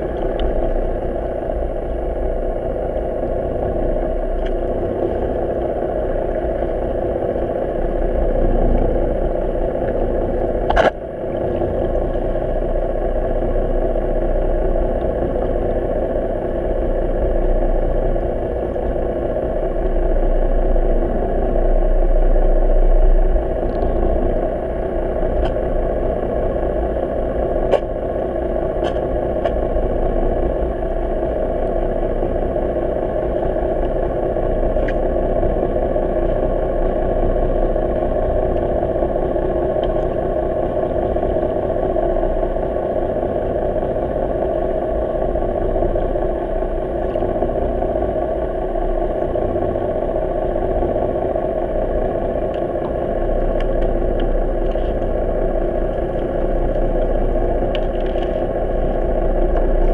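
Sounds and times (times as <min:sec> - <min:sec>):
muffled boat engine underwater: 0:00.0 - 0:59.9.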